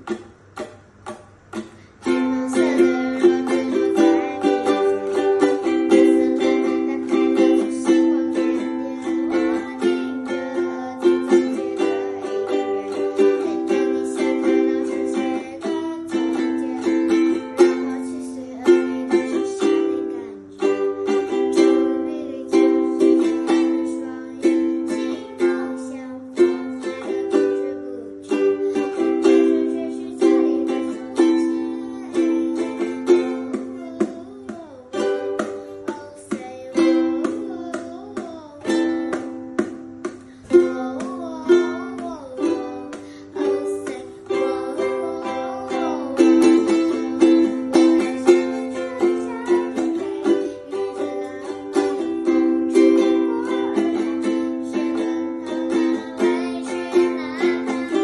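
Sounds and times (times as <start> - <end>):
ukulele strumming: 0.0 - 58.0.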